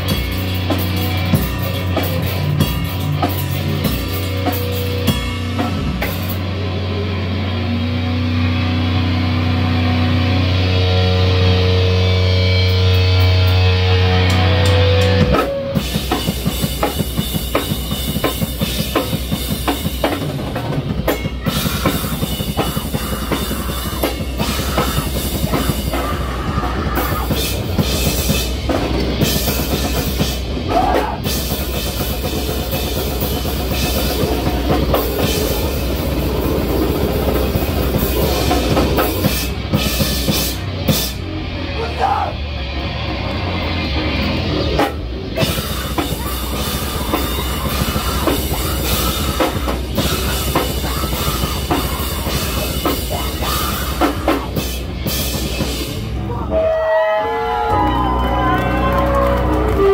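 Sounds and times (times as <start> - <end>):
drum kit beat: 0.0 - 7.4, 10.4 - 42.3, 44.0 - 56.6
live rock band playing: 0.0 - 59.9.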